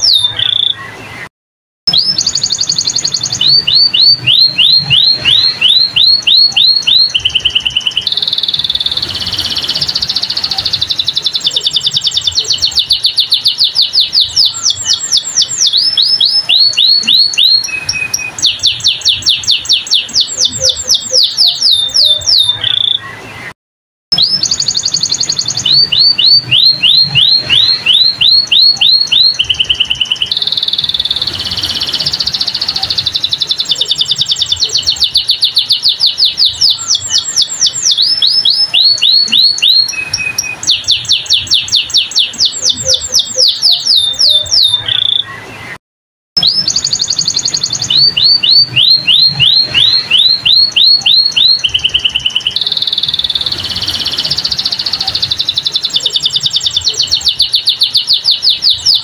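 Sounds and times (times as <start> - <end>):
canary singing trills: 0.0 - 1.3, 1.9 - 45.8, 46.4 - 59.0.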